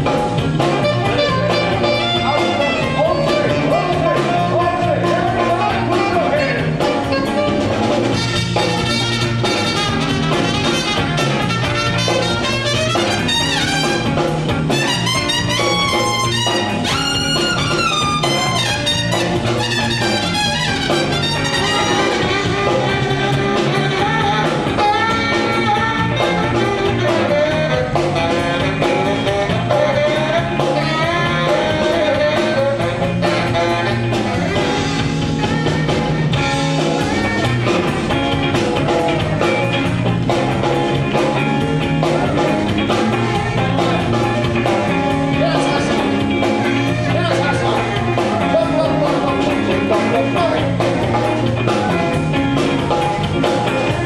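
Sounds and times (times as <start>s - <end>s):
bass line: 0.0s - 54.0s
guitar: 0.0s - 54.0s
live band playing: 0.0s - 54.0s.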